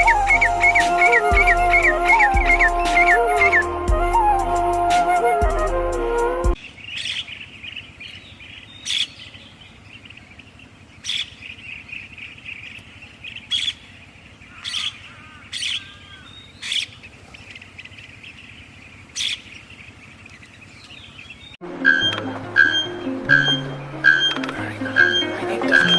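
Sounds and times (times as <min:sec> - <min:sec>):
background chorus of birdsong: 0:00.0 - 0:04.4, 0:06.6 - 0:25.9.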